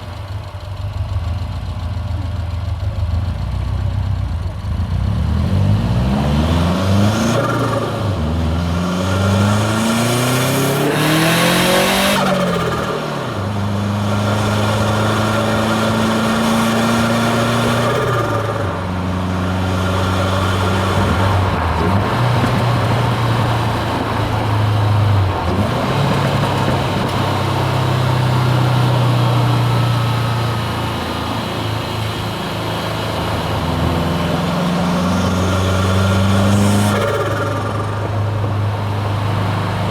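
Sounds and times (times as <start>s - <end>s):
car engine pulling hard: 0.0s - 39.9s
turbo and wastegate rush: 5.4s - 39.9s.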